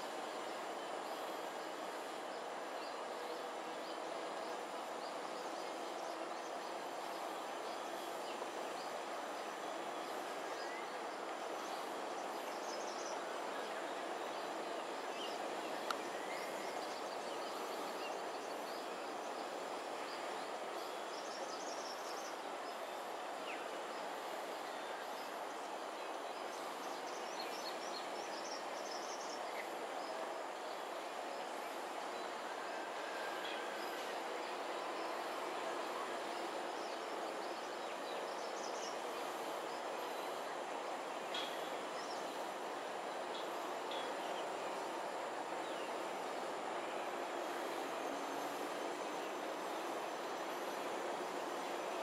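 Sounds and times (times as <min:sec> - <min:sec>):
outdoor background noise: 0:00.0 - 0:52.0.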